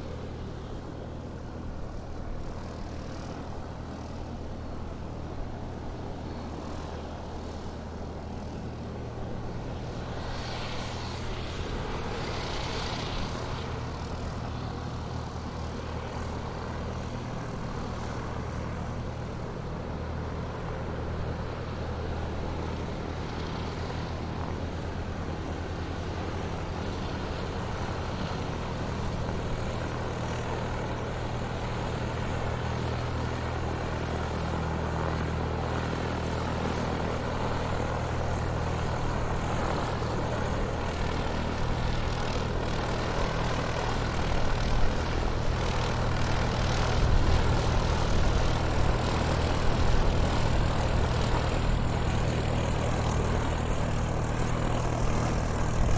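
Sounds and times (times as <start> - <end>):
airplane engine droning: 0.0 - 55.9.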